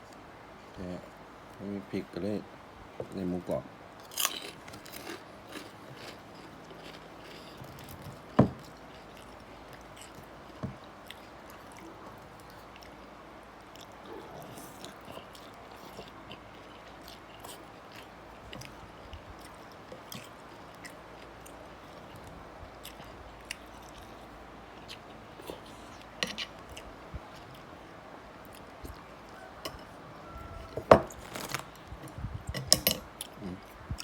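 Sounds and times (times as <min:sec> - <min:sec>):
person chewing food: 0:04.0 - 0:34.0.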